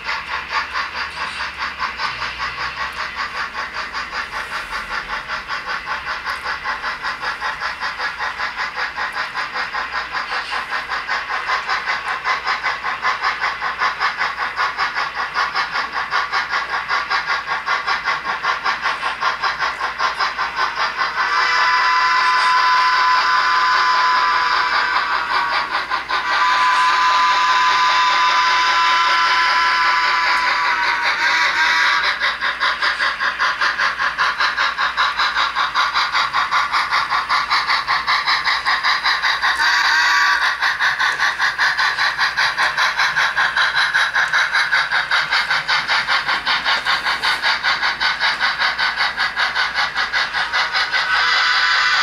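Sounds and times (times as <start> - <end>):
steam locomotive chuffing: 0.0 - 52.0.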